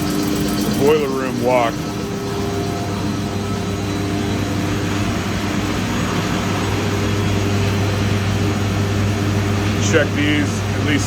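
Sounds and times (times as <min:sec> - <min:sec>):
mechanical equipment humming: 0:00.0 - 0:11.0.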